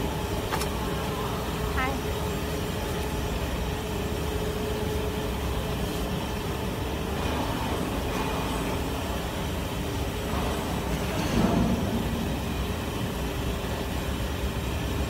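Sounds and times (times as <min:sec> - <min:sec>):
machinery rumble and hum: 0:00.0 - 0:15.0.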